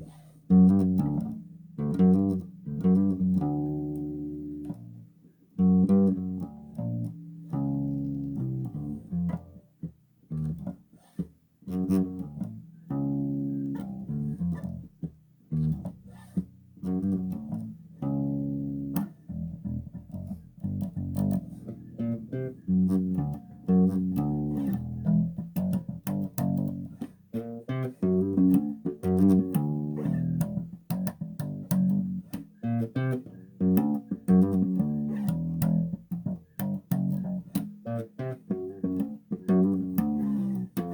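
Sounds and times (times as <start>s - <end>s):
bass guitar plucked notes: 0.0s - 10.8s, 11.6s - 40.9s.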